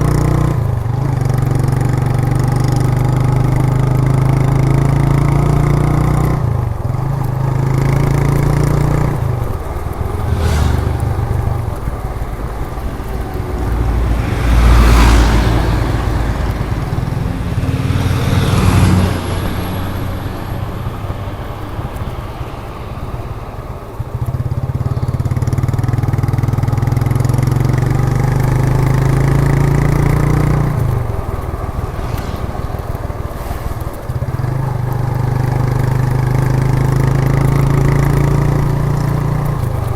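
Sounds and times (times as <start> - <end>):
motorcycle engine exhaust: 0.0 - 39.9
passing traffic: 0.0 - 39.9.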